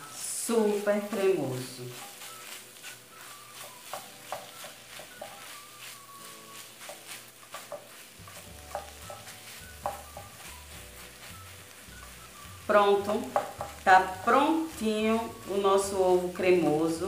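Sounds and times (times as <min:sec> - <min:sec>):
spatula scraping frying pan: 0:00.0 - 0:16.4
faint sizzle: 0:00.0 - 0:17.0.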